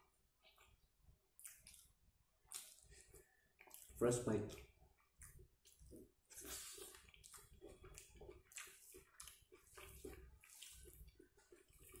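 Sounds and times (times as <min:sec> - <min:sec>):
wet chewing of food: 0:00.0 - 0:12.0
fingers squishing rice: 0:00.4 - 0:12.0.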